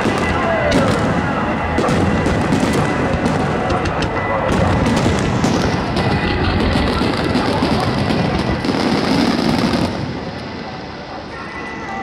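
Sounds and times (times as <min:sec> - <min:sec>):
music: 0:00.0 - 0:09.5, 0:10.4 - 0:12.0
fireworks bursting and crackling: 0:00.0 - 0:12.0.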